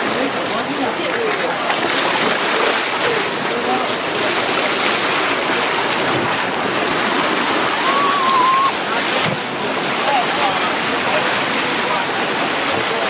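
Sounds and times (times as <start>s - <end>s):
surf breaking on rocky shore: 0.0s - 13.0s.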